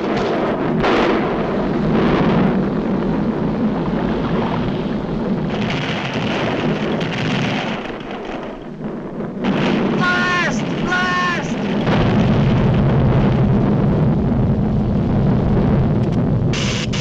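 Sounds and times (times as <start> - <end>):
explosive crashes: 0.0 - 17.0
volcanic eruption rumbling: 0.0 - 17.0.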